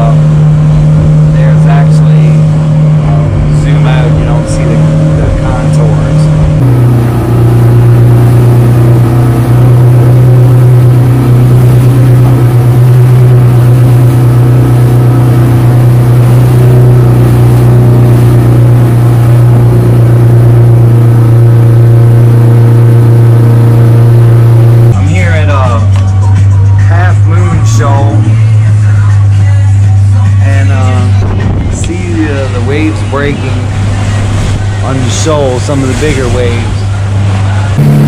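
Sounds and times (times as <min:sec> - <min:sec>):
outboard motor droning: 0:00.0 - 0:38.0.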